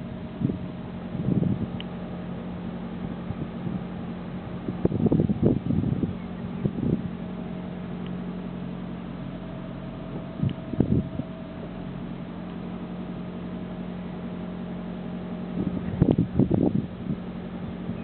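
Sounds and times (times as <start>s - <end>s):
car idling hum: 0.0s - 18.0s.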